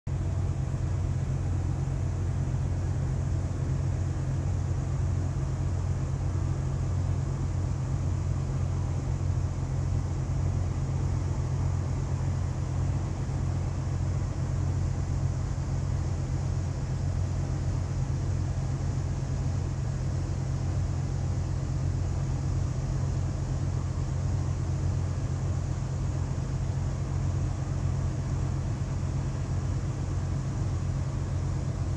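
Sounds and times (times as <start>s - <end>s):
low machinery hum: 0.1s - 31.9s.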